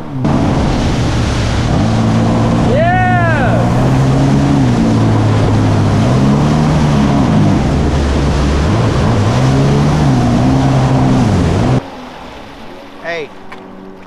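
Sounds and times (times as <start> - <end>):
jet ski engine running: 0.0 - 14.0
wind and water rushing: 0.0 - 14.0.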